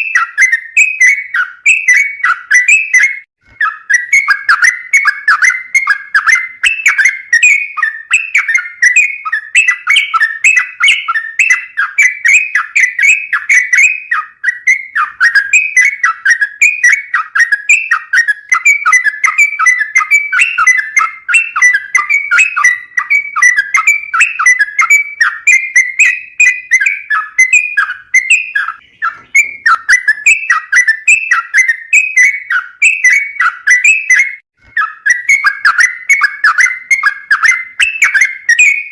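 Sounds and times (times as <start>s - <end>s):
bird singing bubbling whistled notes: 0.0s - 38.9s.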